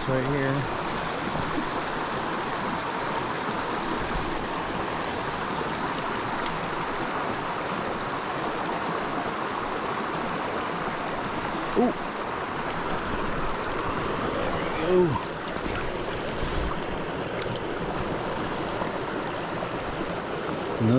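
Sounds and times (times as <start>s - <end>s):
creek water flowing: 0.0s - 20.9s.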